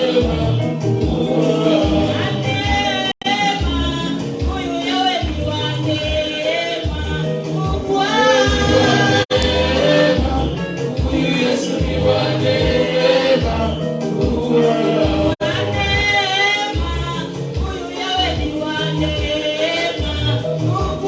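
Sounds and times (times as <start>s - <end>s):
instrumental backing with bass line: 0.0s - 21.0s
voices singing together: 0.0s - 21.0s.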